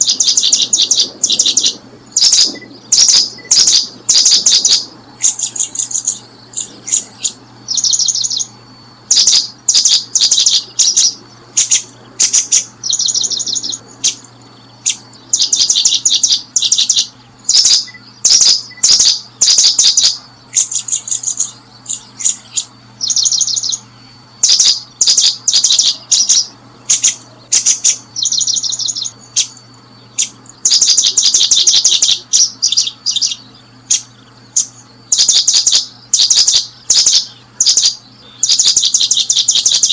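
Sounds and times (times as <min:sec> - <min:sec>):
faint low hum: 0:00.0 - 0:39.9
small bird chirping rapidly: 0:00.0 - 0:39.9.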